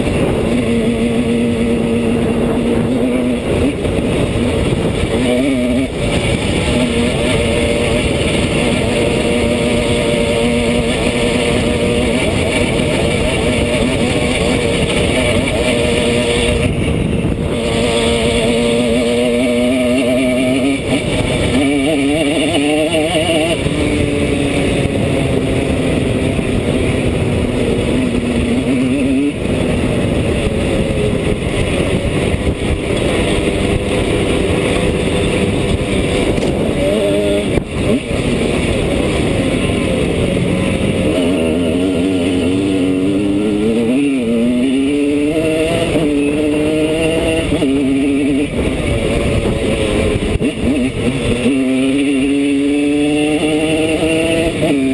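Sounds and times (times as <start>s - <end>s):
two-stroke motorcycle engine: 0.0s - 54.9s.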